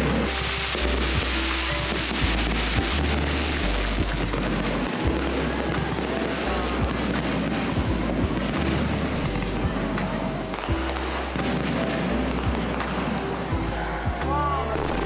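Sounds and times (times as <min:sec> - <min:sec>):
background music with bass line: 0:00.0 - 0:15.0
fireworks crackling: 0:00.0 - 0:15.0
fireworks sharp bangs: 0:00.0 - 0:15.0.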